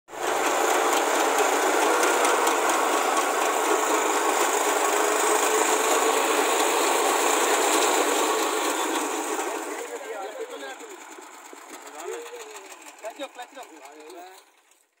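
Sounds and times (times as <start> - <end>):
rotary tiller churning soil: 0.1 - 15.0
tractor engine under load: 0.1 - 15.0.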